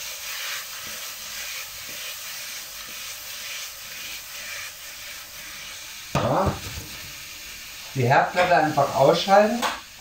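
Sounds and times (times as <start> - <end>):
fruit sizzling in caramel: 0.0 - 10.0.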